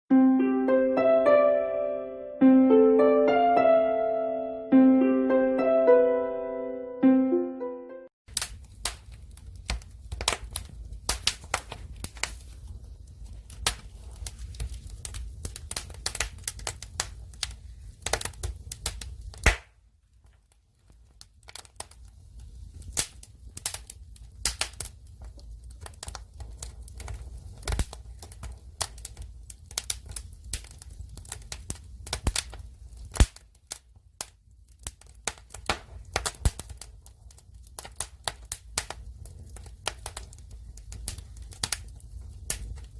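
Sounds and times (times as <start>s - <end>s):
fire crackling and popping: 8.3s - 42.9s.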